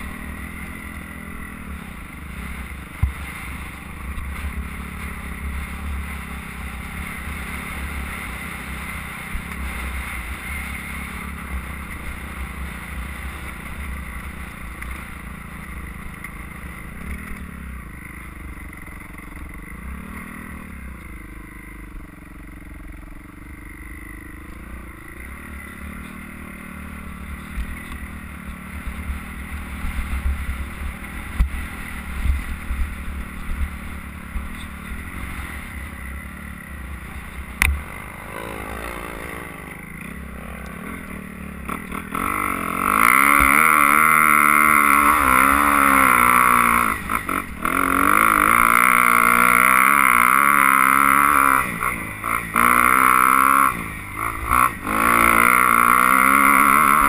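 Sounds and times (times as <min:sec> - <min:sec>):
dirt bike engine: 0:00.0 - 0:57.0.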